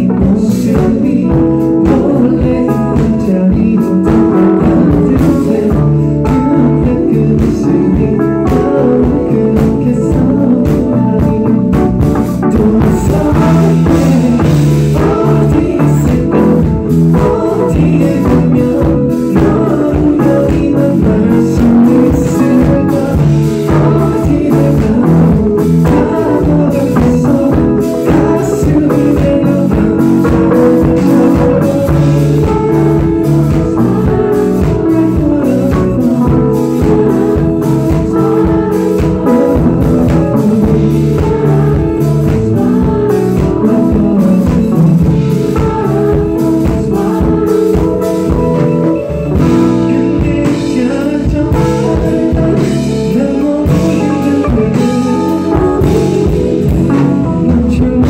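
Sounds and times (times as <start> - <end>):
drum kit beat: 0.0 - 58.0
electric guitar: 0.0 - 58.0
person singing: 0.0 - 58.0.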